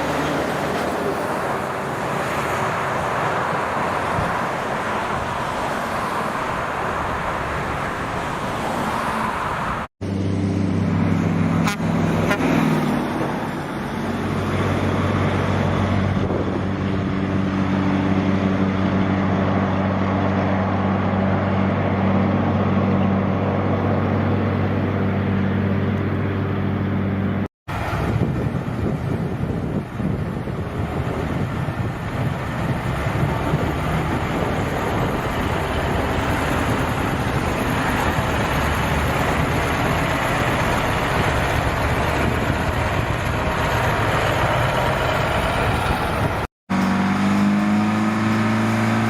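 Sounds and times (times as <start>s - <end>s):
heavy vehicles passing: 0.0s - 49.0s
diesel truck engine running: 9.6s - 49.0s.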